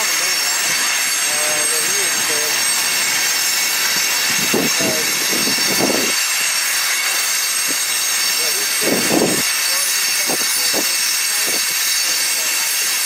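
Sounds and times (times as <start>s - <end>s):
freight train wheels on rail: 0.0s - 13.0s.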